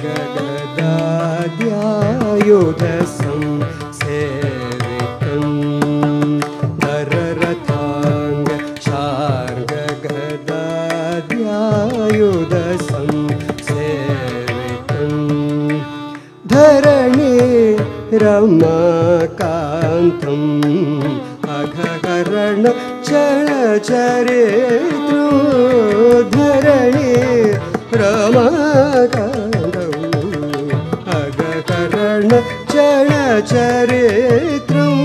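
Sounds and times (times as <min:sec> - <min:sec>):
man singing with sliding ornaments: 0:00.0 - 0:35.0
percussion: 0:00.0 - 0:35.0
violin: 0:00.0 - 0:35.0.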